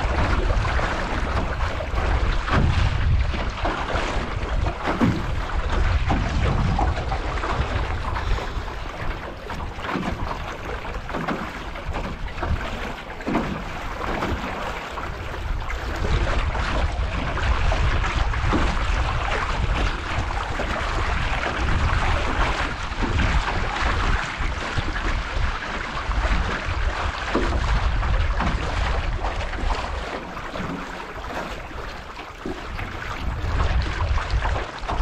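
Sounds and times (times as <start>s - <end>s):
water splashing against hull: 0.0s - 35.0s
wind buffeting microphone: 0.0s - 35.0s.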